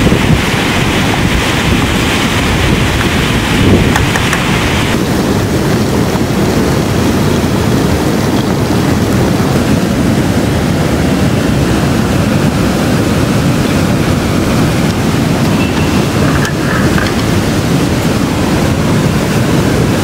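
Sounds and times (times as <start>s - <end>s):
flowing river: 0.0s - 20.0s
wind buffeting microphone: 0.0s - 20.0s.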